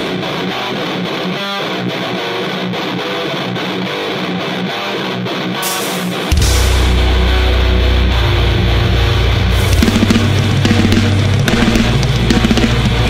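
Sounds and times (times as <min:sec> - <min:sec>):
distorted electric guitar riff: 0:00.0 - 0:13.0.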